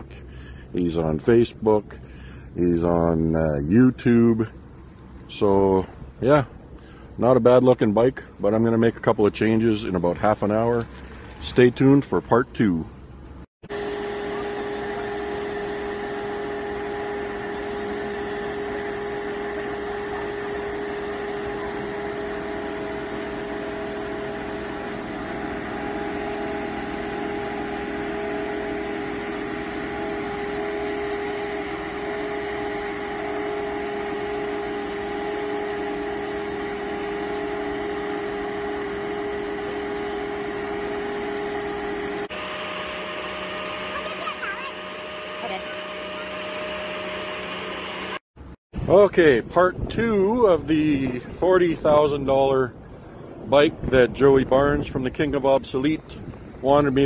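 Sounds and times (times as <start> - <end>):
constant whine: 0.0 - 57.0
engine and hydraulic pump drone: 0.0 - 57.0.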